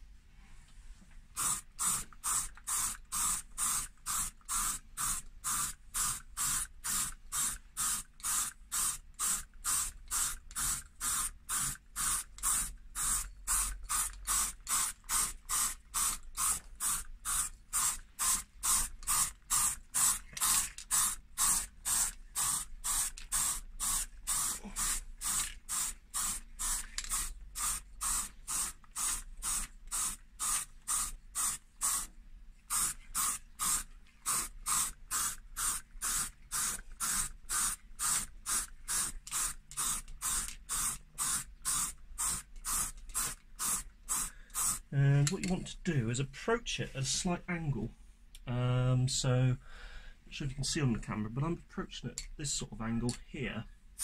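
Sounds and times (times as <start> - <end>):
spray paint can hissing: 1.4 - 45.4.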